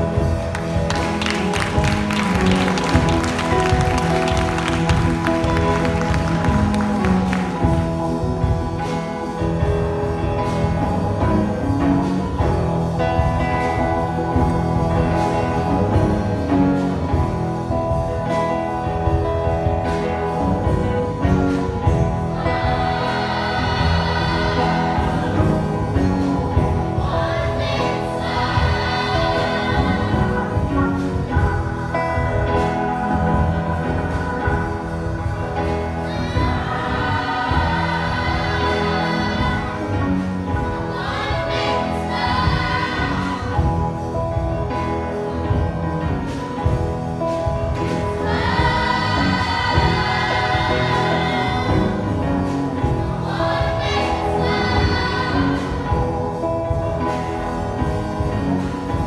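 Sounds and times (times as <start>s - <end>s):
gospel choir singing: 0.0s - 18.8s, 19.6s - 59.0s
instrumental accompaniment with beat: 0.0s - 59.0s.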